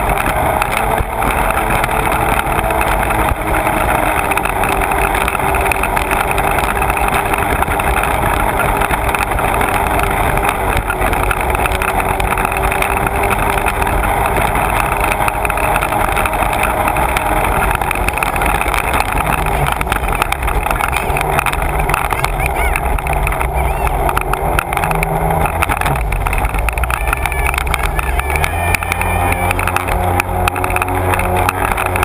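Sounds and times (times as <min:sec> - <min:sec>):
watercraft engine drone: 0:00.0 - 0:32.0.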